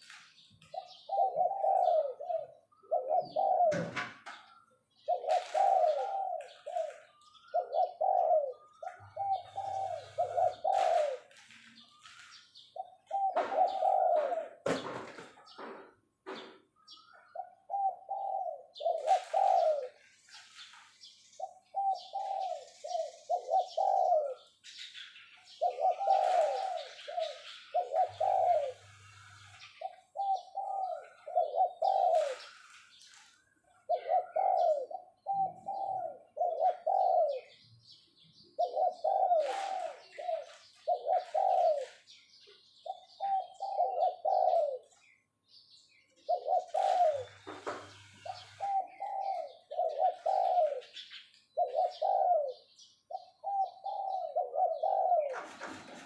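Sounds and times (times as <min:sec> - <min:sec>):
dove cooing: 0:00.0 - 0:45.2, 0:46.0 - 0:56.0.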